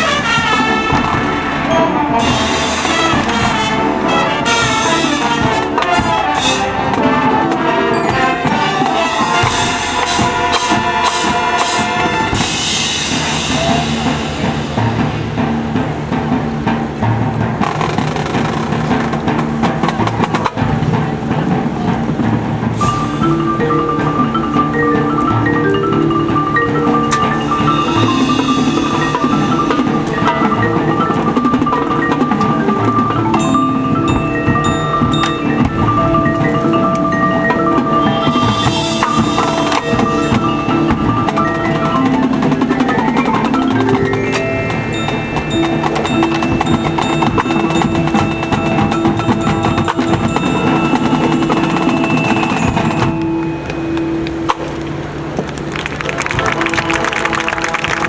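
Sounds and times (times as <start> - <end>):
mallet percussion playing: 0.0 - 58.0
marching band music: 0.0 - 58.0.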